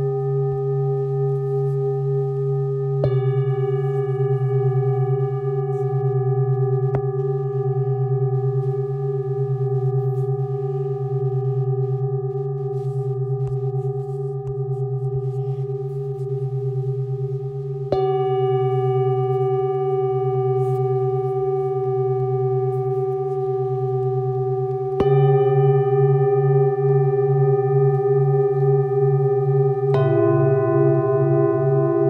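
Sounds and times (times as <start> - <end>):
singing bowl struck: 0.0 - 32.0
singing bowls ringing: 0.0 - 32.0.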